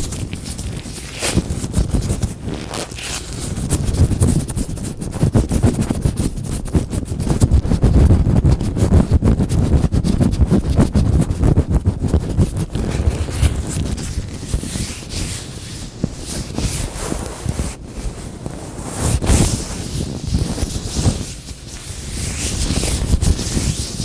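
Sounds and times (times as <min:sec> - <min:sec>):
latex gloves rustling: 0:00.0 - 0:08.0, 0:10.4 - 0:24.0.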